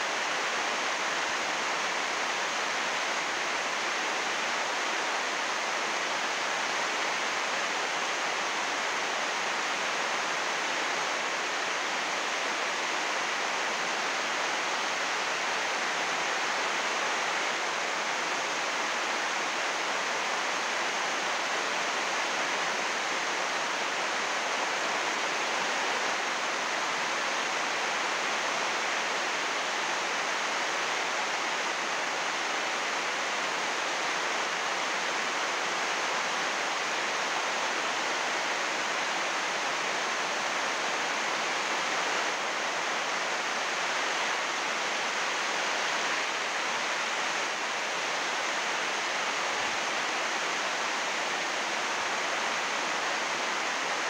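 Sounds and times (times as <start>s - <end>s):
heavy rain on plastic sheet: 0.0s - 54.0s.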